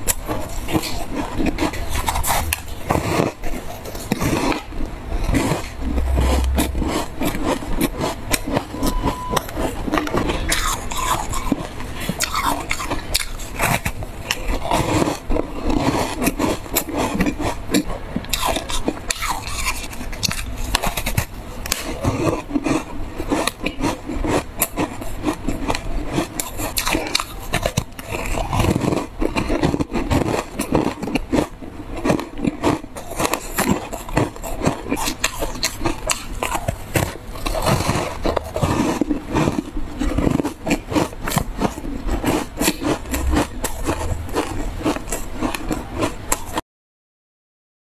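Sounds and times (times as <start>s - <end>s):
crunching frozen ice: 0.0s - 46.6s.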